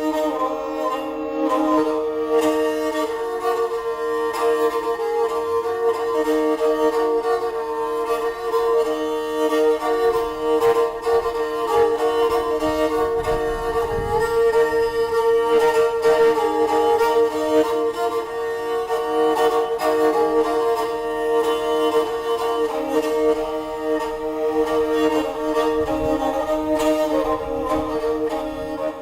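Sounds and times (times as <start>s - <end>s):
bowed fiddle-like melody: 0.0s - 29.0s.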